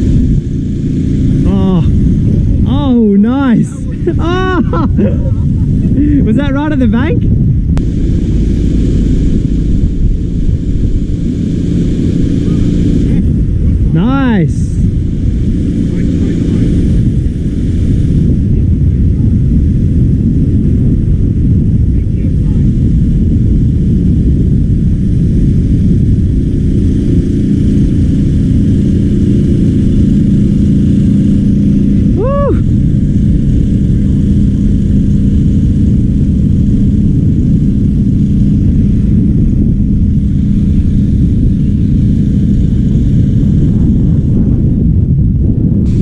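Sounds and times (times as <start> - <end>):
steady hum: 0.0 - 46.0
wind buffeting microphone: 0.0 - 46.0.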